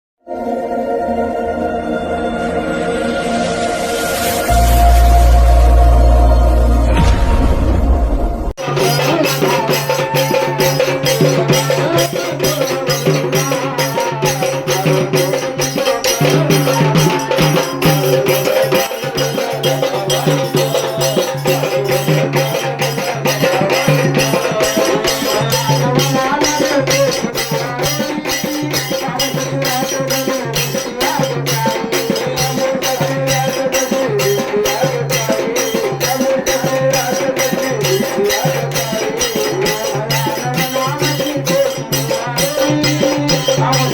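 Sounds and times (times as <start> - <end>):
rattling percussion beat: 8.5 - 43.9.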